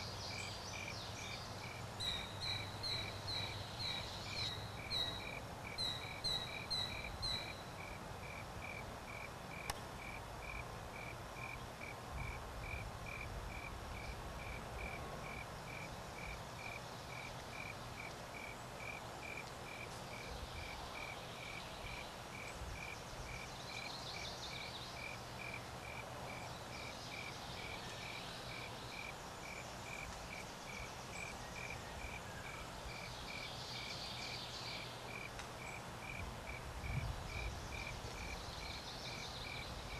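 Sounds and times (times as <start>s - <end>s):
cricket chirping: 0.3s - 39.9s.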